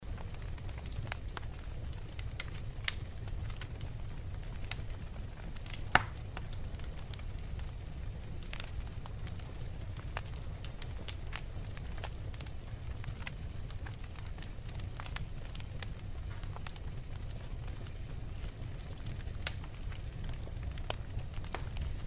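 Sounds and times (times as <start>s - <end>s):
fire crackles and pops: 0.0s - 22.0s
wood logs burning in fireplace: 0.0s - 22.0s.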